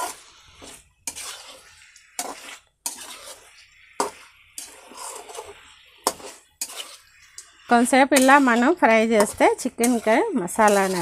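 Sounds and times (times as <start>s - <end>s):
light sizzle of frying: 0.0s - 11.0s
metal spatula scraping frying pan: 0.0s - 11.0s.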